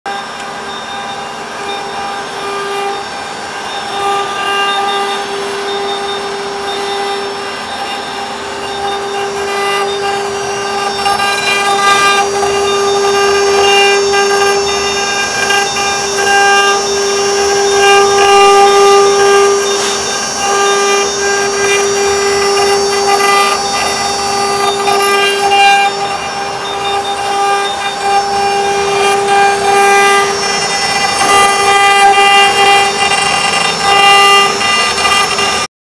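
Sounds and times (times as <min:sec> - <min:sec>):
bits cutting wood: 0:00.1 - 0:35.7
router spindles high-pitched whine: 0:00.1 - 0:35.7.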